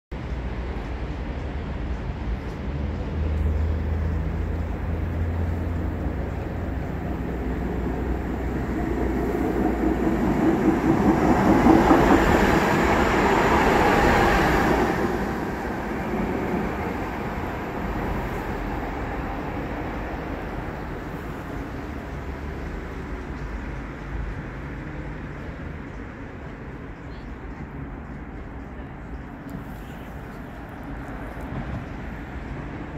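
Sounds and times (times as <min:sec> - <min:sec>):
tram wheels rumbling on rails: 0:00.1 - 0:32.9.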